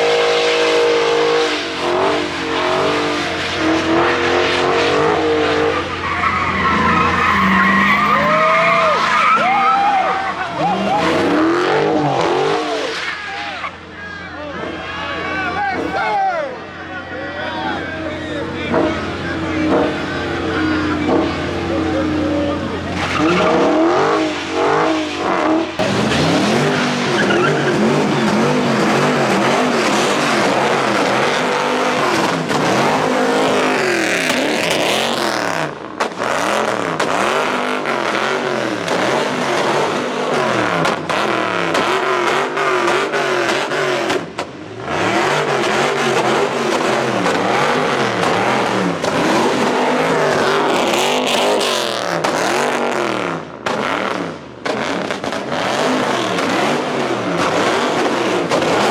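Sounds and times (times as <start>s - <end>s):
car engines revving: 0.0s - 58.9s
tyres skidding: 0.0s - 58.9s.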